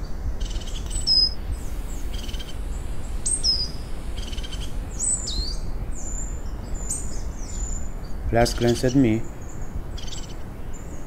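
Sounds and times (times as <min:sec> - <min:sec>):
songbirds whistling: 0:00.0 - 0:11.0
steady low rumble: 0:00.0 - 0:11.0
buzzy bird trill: 0:00.4 - 0:10.9.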